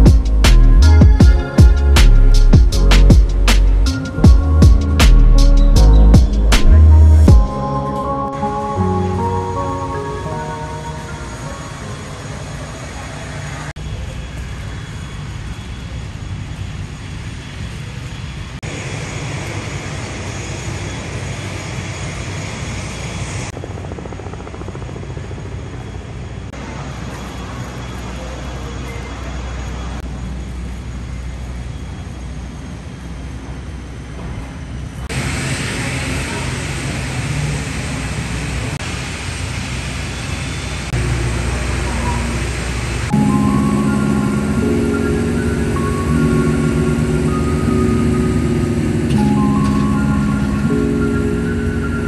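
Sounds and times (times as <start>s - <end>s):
aircraft noise drone: 0.0s - 52.0s.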